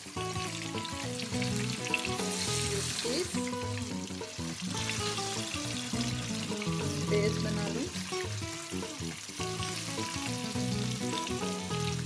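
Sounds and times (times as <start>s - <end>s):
background music: 0.0s - 12.0s
fish sizzling in hot oil: 0.0s - 12.0s.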